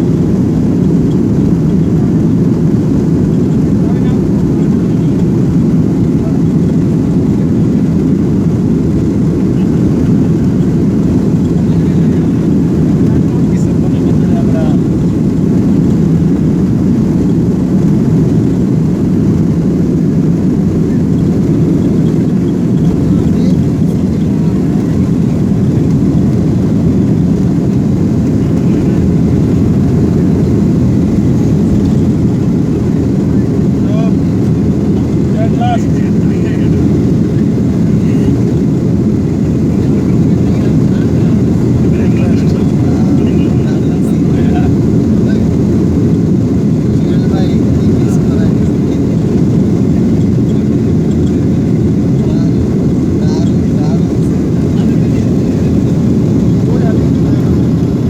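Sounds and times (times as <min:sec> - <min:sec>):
airliner engines rumbling: 0:00.0 - 0:58.0.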